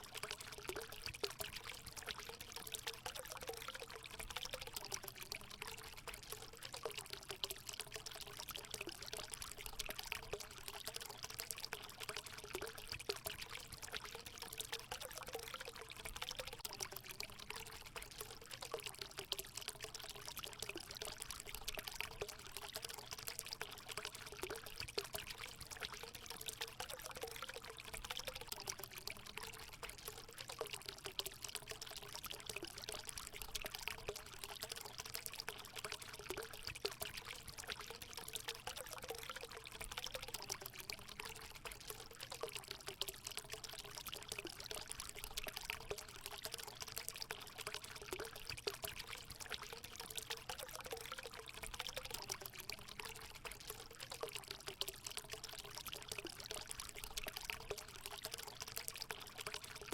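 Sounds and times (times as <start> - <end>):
water pouring into a pool: 0.0 - 59.9.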